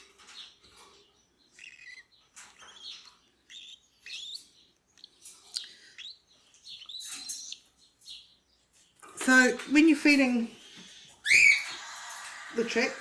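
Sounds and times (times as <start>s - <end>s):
bird chicks begging chirps: 0.0s - 13.0s.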